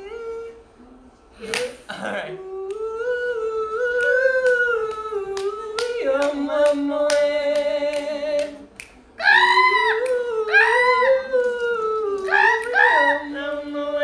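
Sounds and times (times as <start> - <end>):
voices singing held notes: 1.4 - 14.0.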